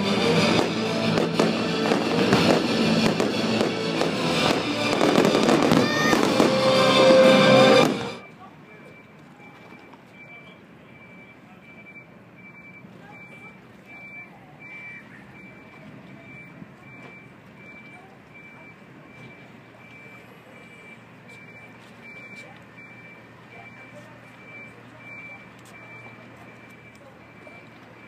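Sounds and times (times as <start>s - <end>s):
faint crowd chatter: 0.0s - 28.0s
reversing alarm beeping: 0.0s - 28.0s.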